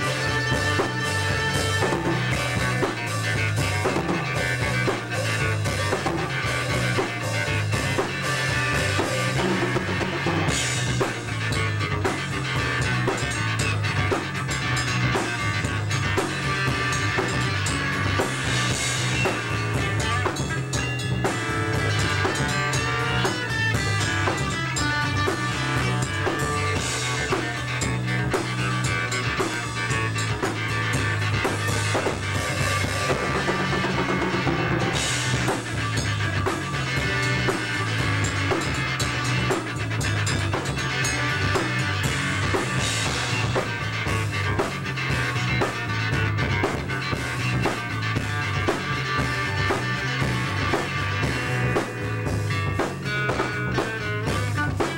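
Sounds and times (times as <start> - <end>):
drum kit beat: 0.0 - 54.9
keyboard: 0.0 - 54.9.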